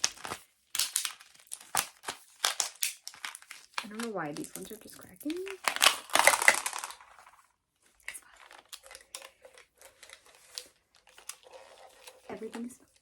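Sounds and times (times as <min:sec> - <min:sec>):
plastic containers crackling: 0:00.0 - 0:13.0.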